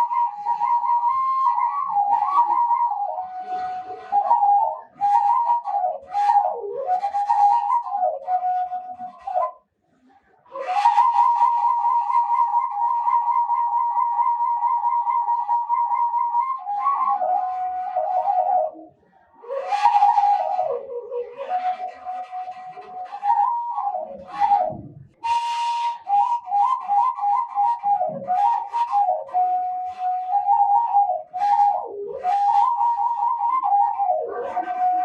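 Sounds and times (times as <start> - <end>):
bamboo flute melody: 0.0 - 9.6, 10.4 - 35.0.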